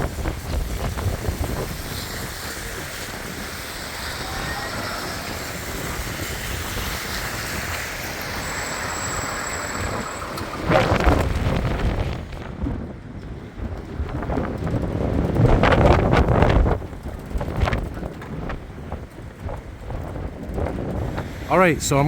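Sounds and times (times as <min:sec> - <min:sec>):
strong wind rushing: 0:00.0 - 0:22.0
wind buffeting microphone: 0:00.0 - 0:22.0.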